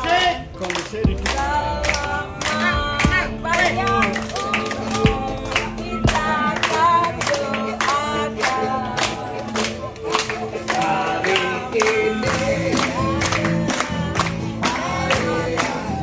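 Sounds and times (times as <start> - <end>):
group singing: 0.0 - 16.0
people clapping: 0.0 - 16.0.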